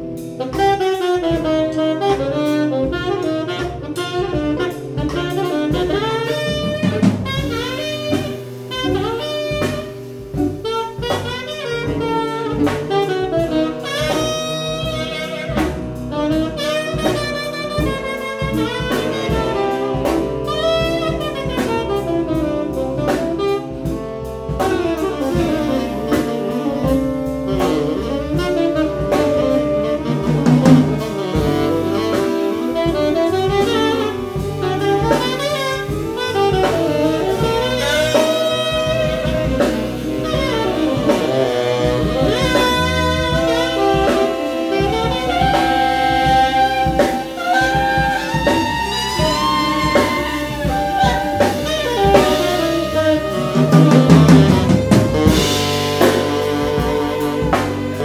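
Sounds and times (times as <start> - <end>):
drum kit: 0.0 - 58.0
electric bass: 0.0 - 58.0
saxophones playing jazz: 0.0 - 58.0.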